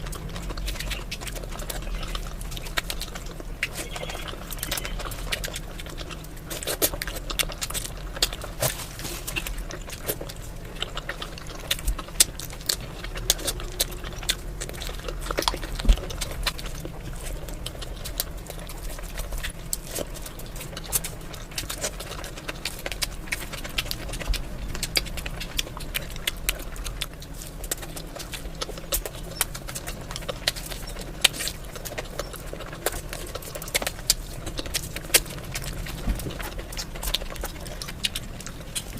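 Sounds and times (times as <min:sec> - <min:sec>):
wet chewing and lip smacking: 0:00.0 - 0:38.9.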